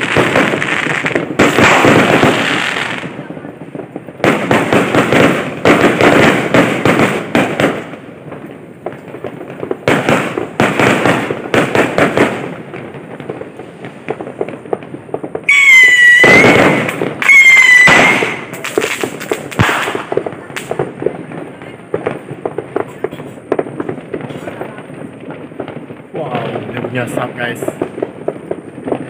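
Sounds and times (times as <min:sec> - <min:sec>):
firecrackers crackling bangs: 0:00.0 - 0:29.0
fireworks whistling: 0:00.0 - 0:29.0.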